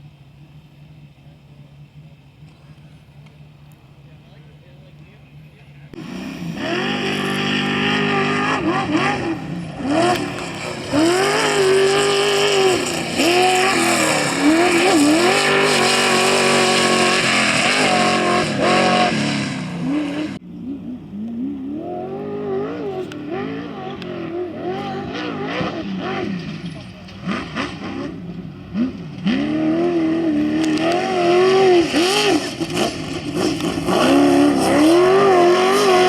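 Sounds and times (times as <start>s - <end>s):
race engine revving: 1.3s - 36.0s.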